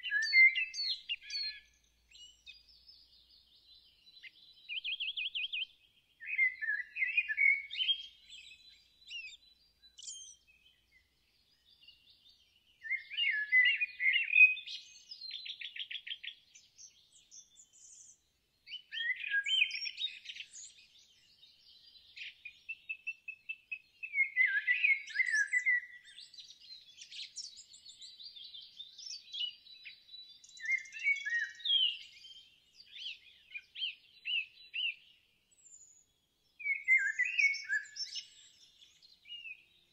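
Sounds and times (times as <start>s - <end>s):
birds singing warbling phrases: 0.0s - 39.9s.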